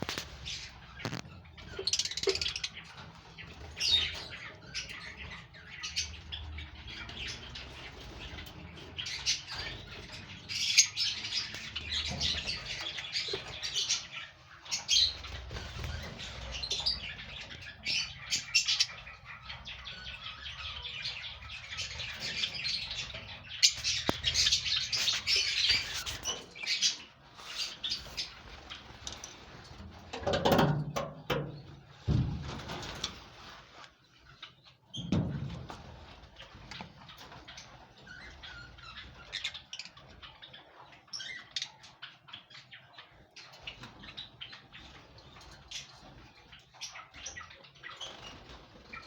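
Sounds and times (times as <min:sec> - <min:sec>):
lovebirds chirping and chattering: 0:00.0 - 0:49.0.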